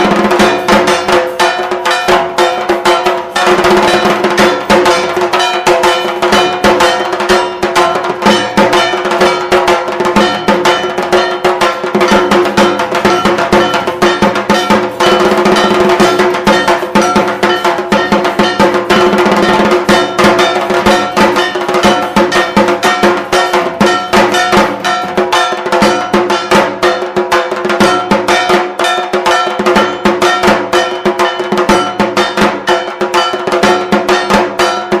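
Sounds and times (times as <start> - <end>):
fast percussion strikes: 0.0 - 35.0.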